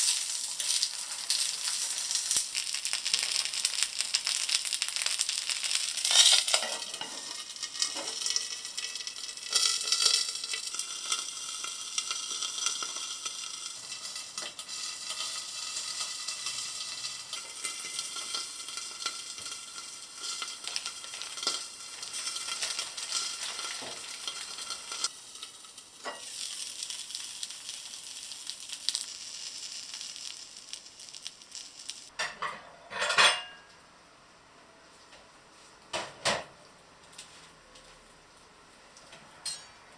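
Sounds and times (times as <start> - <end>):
food sizzling in a frying pan: 0.0 - 33.8.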